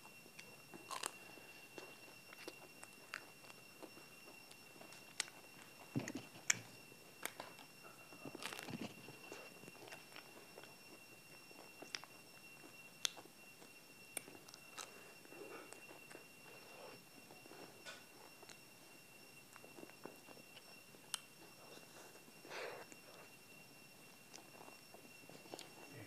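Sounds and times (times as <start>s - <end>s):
faint high whine: 0.0s - 26.0s.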